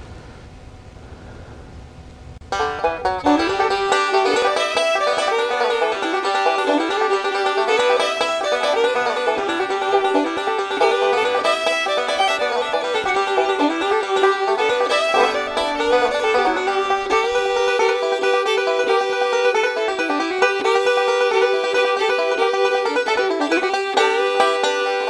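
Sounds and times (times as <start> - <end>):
bluegrass banjo tune: 2.4 - 25.0.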